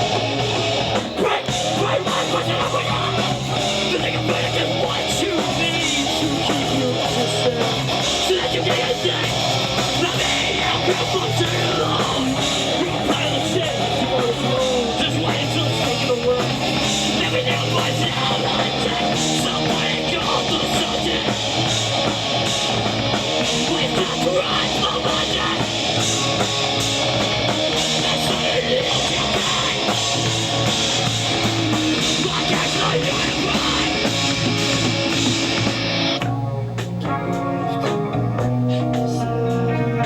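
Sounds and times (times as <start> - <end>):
heavy rock music: 0.0 - 40.0.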